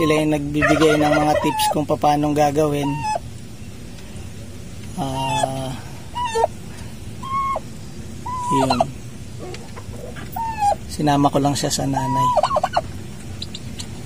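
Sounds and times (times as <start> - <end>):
turkeys whistled calls: 0.0 - 3.8, 5.0 - 14.0.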